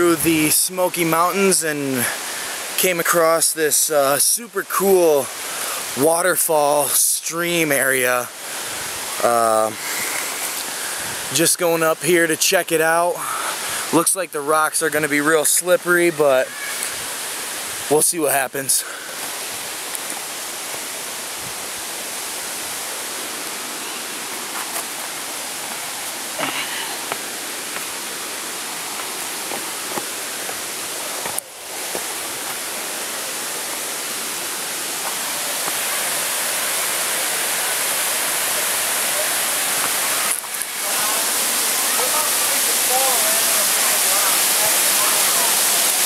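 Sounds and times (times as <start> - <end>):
waterfall pouring over rocks: 0.0 - 46.0.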